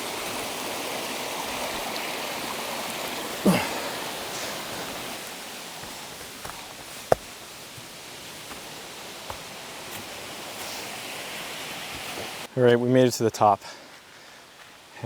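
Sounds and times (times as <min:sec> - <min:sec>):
creek water rushing over cascades: 0:00.0 - 0:12.5.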